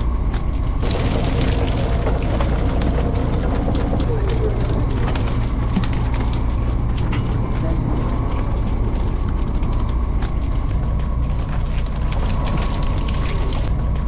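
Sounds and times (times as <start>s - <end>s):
boat engine droning: 0.0s - 14.0s
small clicks and ticks: 0.3s - 14.0s.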